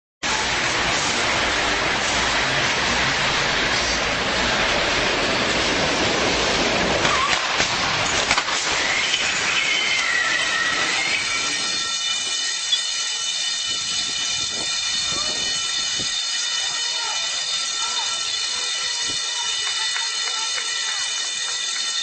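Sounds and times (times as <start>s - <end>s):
rushing street noise: 0.2s - 22.0s
tram wheels squealing on rails: 0.2s - 22.0s.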